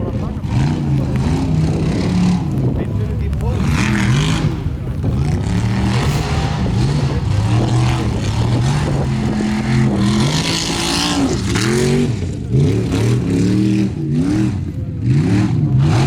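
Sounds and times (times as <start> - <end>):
buggy engine revving hard: 0.0 - 16.0.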